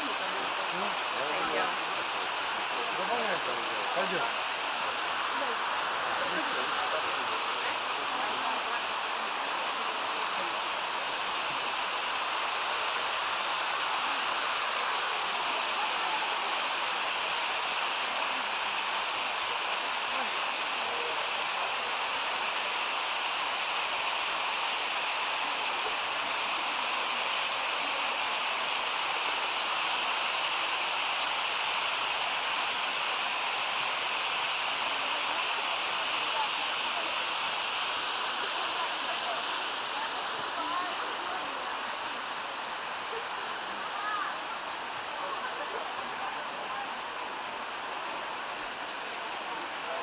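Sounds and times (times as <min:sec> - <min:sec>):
water rushing down waterfall: 0:00.0 - 0:50.0.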